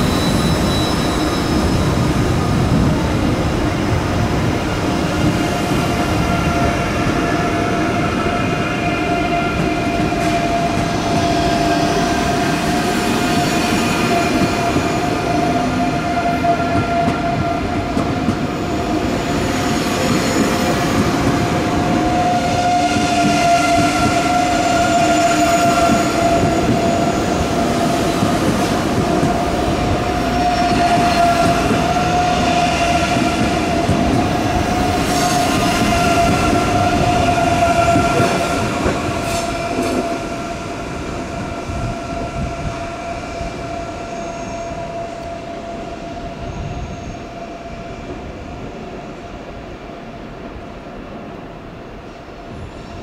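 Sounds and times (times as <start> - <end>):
train rumbling on tracks: 0.0 - 53.0.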